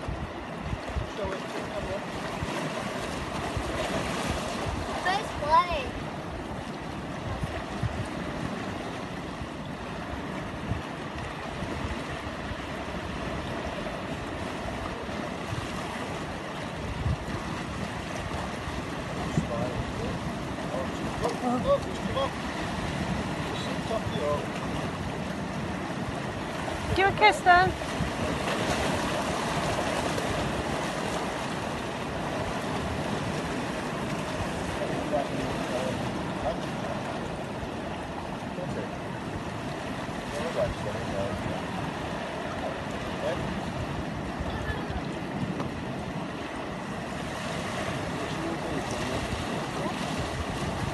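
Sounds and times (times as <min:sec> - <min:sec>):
sea surf against rocks: 0:00.0 - 0:50.9
wind buffeting microphone: 0:00.0 - 0:50.9.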